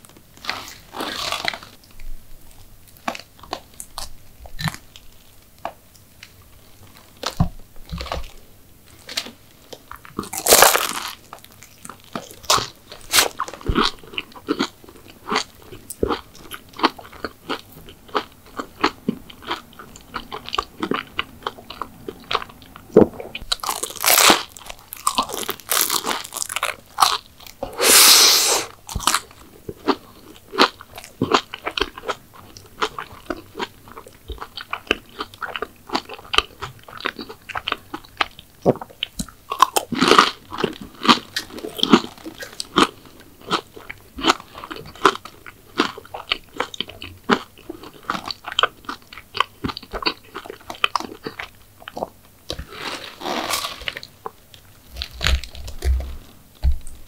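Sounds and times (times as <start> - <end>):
crunching bites of sweets: 9.0 - 56.2
chewing crunches: 9.0 - 57.0.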